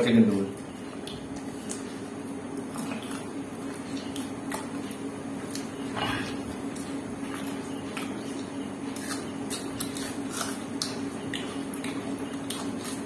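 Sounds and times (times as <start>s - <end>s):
steady low hum: 0.0s - 13.0s
chewing and lip-smacking: 0.3s - 13.0s.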